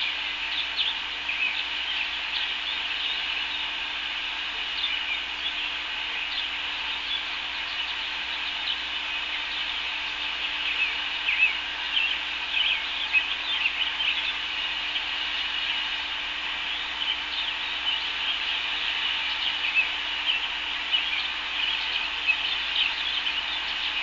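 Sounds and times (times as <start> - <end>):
birds chirping and calling: 0.0 - 3.8, 4.7 - 15.9, 16.6 - 24.0
steady hiss: 0.0 - 24.0.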